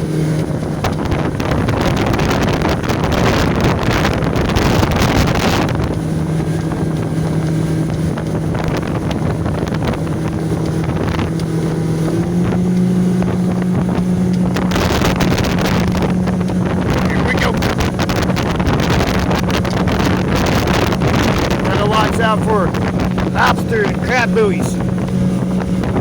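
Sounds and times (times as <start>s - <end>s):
outboard motor running: 0.0s - 26.0s
wind buffeting microphone: 0.0s - 26.0s.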